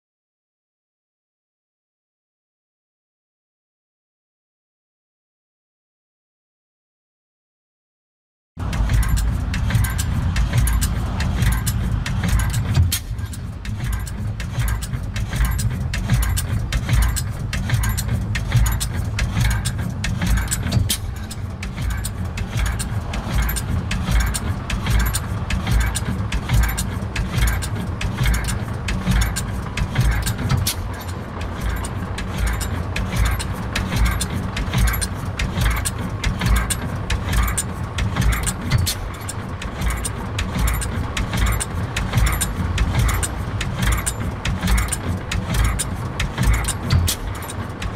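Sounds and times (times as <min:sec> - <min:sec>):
flywheel engine running: 0:08.6 - 0:47.9.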